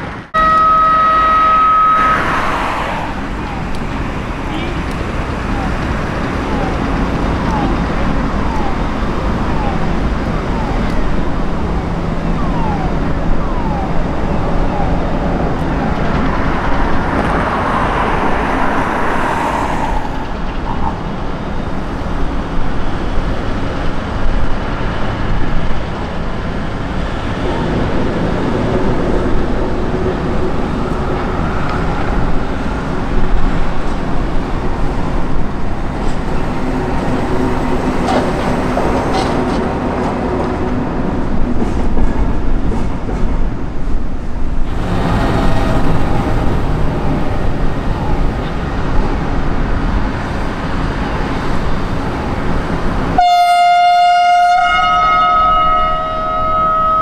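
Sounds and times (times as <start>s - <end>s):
train wheels rumbling on rails: 1.4s - 54.8s.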